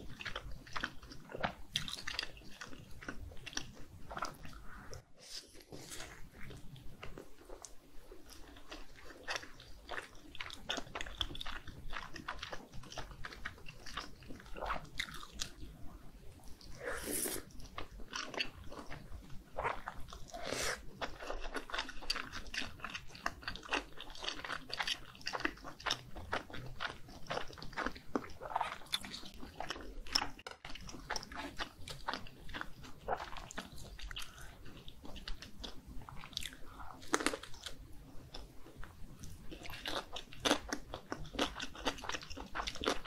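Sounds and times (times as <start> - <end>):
person chewing fish cake: 0.0 - 43.0.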